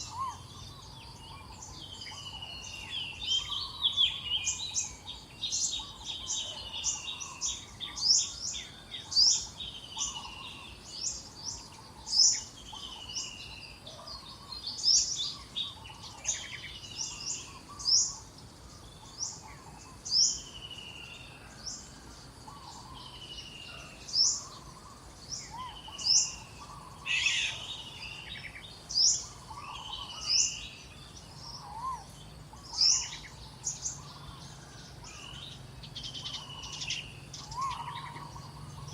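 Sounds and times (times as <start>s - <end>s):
faint forest background hiss: 0.0s - 38.9s
lower warbled bird calls: 0.0s - 38.9s.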